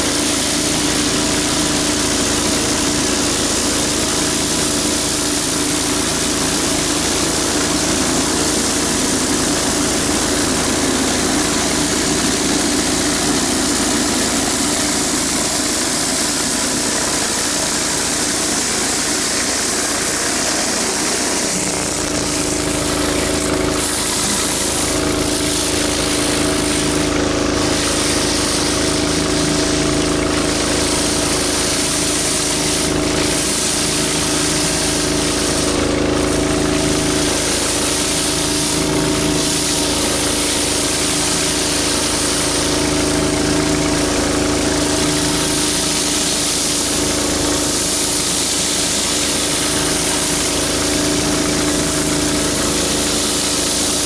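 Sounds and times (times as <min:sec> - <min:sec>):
pressure washer engine running: 0:00.0 - 0:54.0
water spray hissing on concrete: 0:00.0 - 0:54.0.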